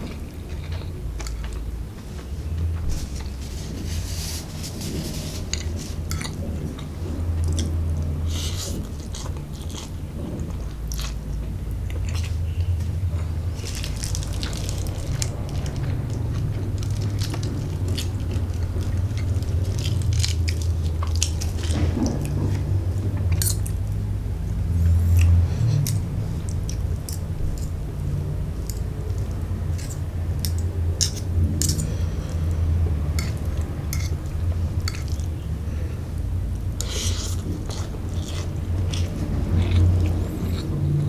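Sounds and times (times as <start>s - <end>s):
person chewing food: 0.0s - 41.0s
steady low hum: 0.0s - 41.0s.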